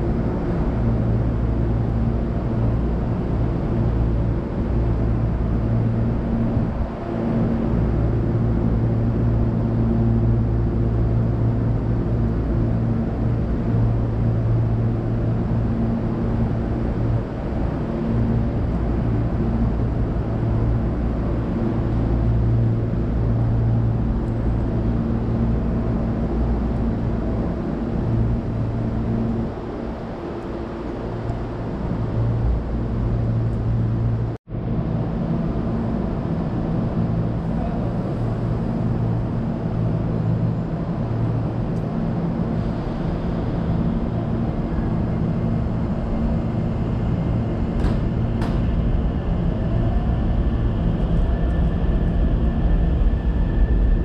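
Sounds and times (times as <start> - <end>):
electric train hum: 0.0 - 54.0.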